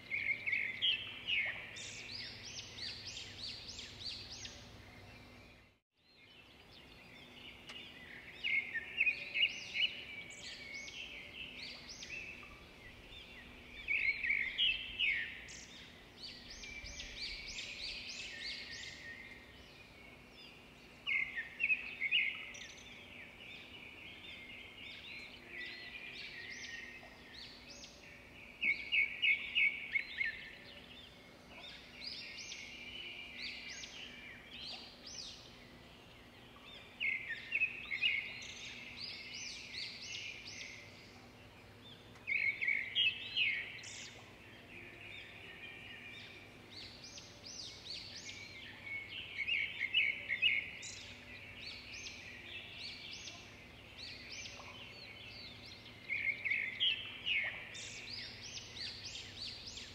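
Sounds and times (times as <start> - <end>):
quiet bird chirping: 0.0 - 59.9
songbird singing: 0.0 - 59.9.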